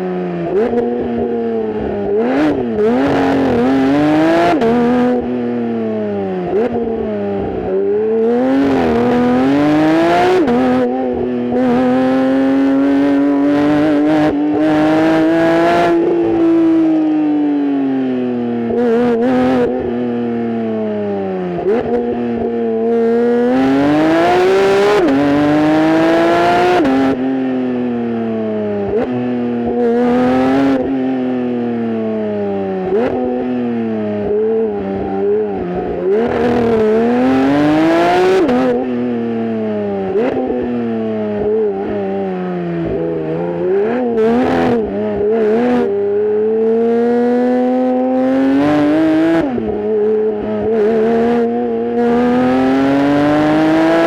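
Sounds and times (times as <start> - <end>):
sports car engine revving: 0.4 - 17.0, 20.6 - 27.3, 28.4 - 54.0.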